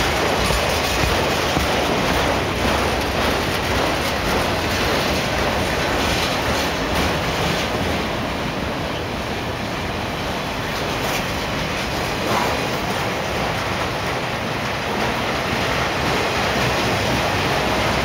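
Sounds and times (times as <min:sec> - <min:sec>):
steel wheels rolling on rail: 0:00.0 - 0:18.0.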